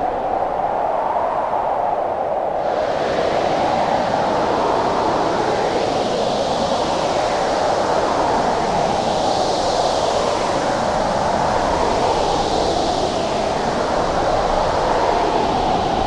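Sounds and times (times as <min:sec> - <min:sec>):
howling blizzard wind: 0:00.0 - 0:16.0.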